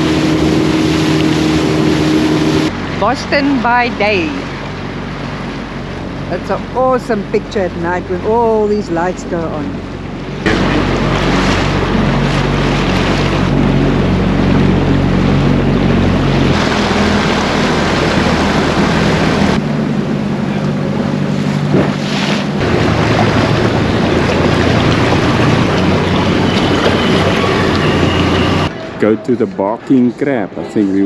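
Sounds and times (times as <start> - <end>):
water rushing past hull: 0.0 - 29.8
outboard motor running: 0.0 - 31.0.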